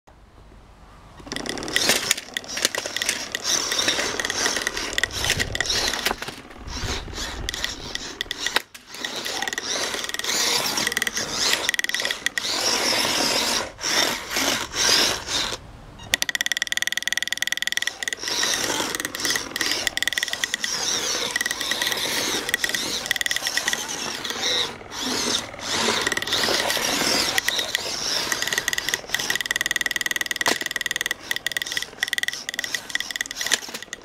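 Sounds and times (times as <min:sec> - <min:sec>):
combat robot motor whirring: 0:01.2 - 0:34.0.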